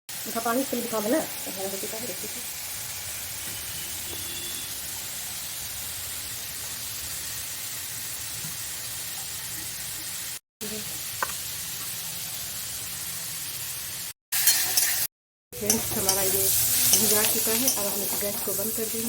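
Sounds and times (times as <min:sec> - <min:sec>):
food sizzling in a pan: 0:00.1 - 0:19.0.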